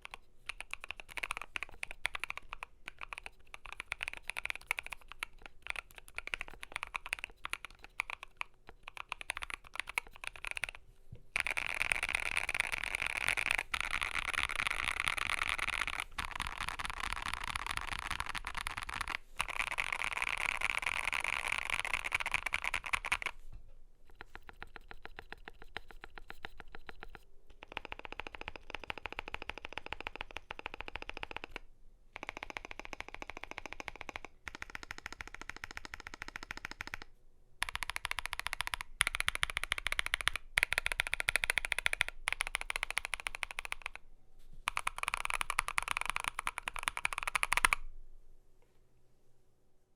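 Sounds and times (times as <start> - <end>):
mechanical keyboard typing: 0.0 - 10.8, 11.4 - 23.4, 24.0 - 44.0, 44.7 - 47.9.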